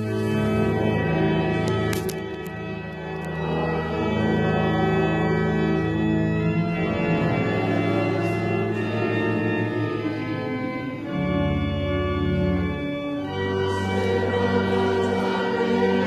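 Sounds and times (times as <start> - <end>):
congregation singing: 0.0 - 16.0
pipe organ playing chords: 0.0 - 16.0.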